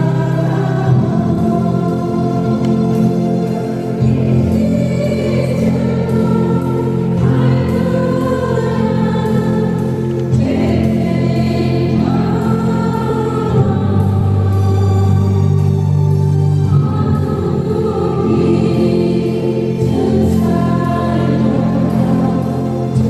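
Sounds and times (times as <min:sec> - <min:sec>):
choir and congregation singing hymn: 0:00.0 - 0:23.0
sustained organ chords: 0:00.0 - 0:23.0.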